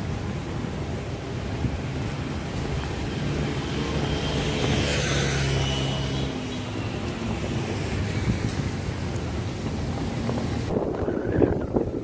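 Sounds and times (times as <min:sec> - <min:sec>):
road traffic passing: 0:00.0 - 0:12.0
skate wheels rolling on pavement: 0:00.0 - 0:12.0
wind buffeting microphone: 0:00.0 - 0:12.0.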